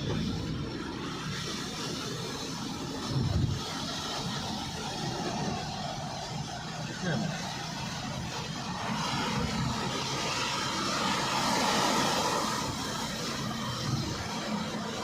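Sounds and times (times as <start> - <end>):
rain hissing: 0.0 - 15.0.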